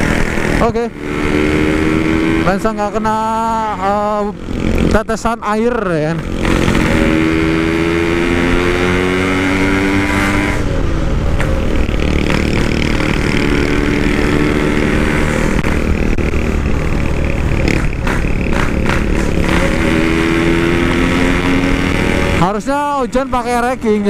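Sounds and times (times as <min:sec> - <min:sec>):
two-stroke motorcycle accelerating: 0:00.0 - 0:24.0.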